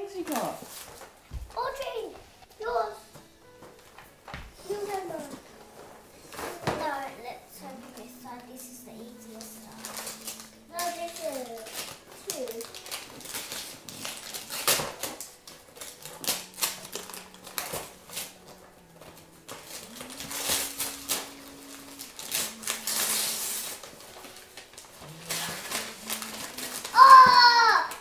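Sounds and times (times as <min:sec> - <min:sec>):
wrapping paper crinkling and tearing: 0:00.0 - 0:01.9, 0:04.6 - 0:28.0.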